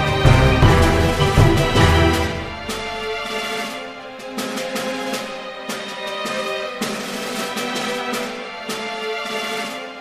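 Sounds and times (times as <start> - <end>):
instrumental music with held notes: 0.0 - 10.0.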